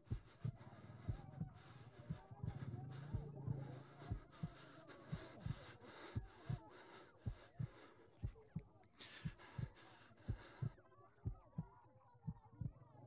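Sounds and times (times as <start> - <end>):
heartbeat thumps: 0.0 - 13.0.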